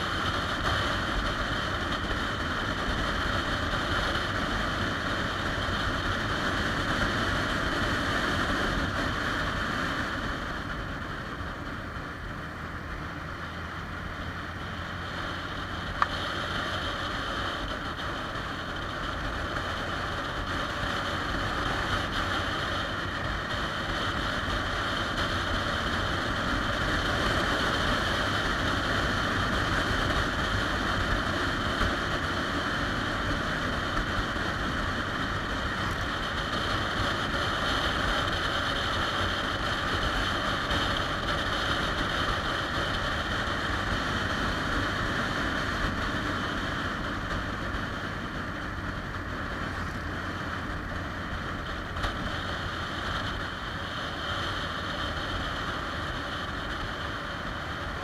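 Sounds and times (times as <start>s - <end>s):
motorcycle engine running: 0.0s - 58.0s
wind rush: 0.0s - 58.0s.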